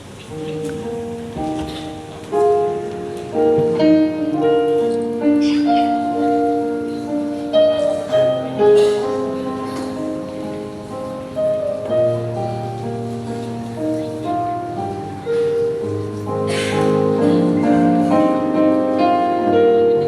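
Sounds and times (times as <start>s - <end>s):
slow piano melody: 0.0s - 20.0s.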